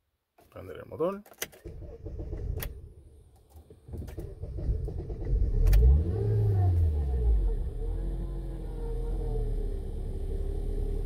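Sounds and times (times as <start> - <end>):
car engine starting and idling: 1.5 - 11.0.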